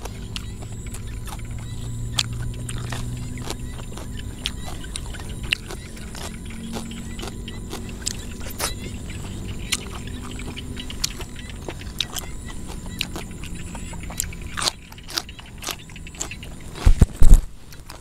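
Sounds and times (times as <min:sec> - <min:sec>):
high-pitched insect chorus: 0:00.0 - 0:16.8
close-up wet chewing: 0:00.0 - 0:18.0.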